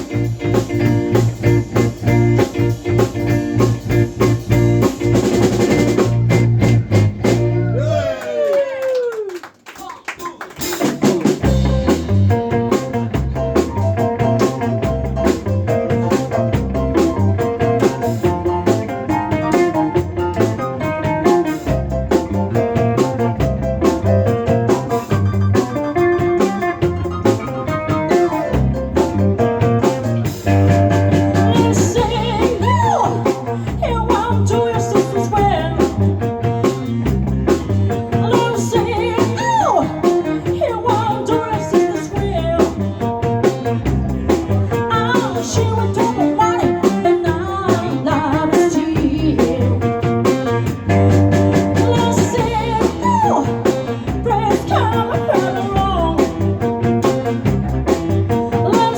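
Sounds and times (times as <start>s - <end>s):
lead melody with bending notes: 0.0s - 7.7s, 11.4s - 58.9s
blues band playing: 0.0s - 8.7s, 10.4s - 58.9s.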